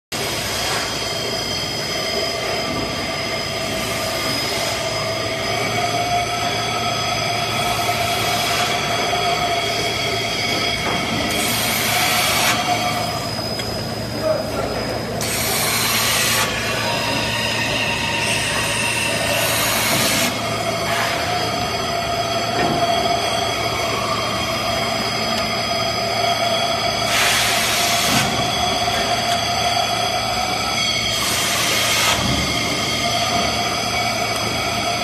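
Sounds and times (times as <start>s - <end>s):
high whining tones: 0.2s - 35.0s.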